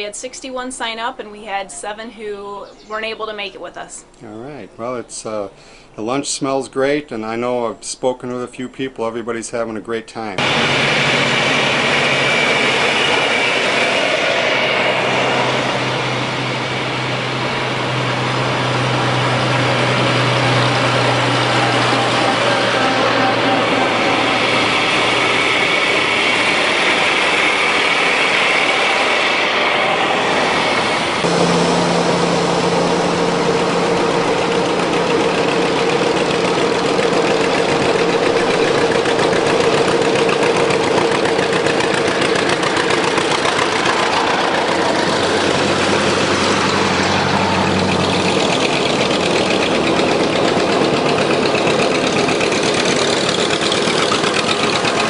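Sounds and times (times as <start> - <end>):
tractor engines running: 10.4 - 55.0.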